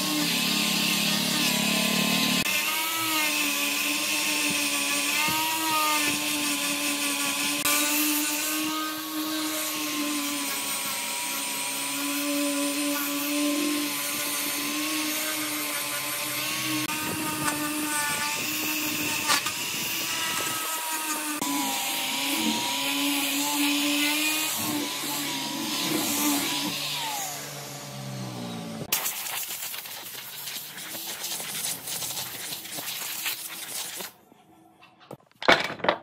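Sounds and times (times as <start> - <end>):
power tool motor working wood: 0.0 - 28.9.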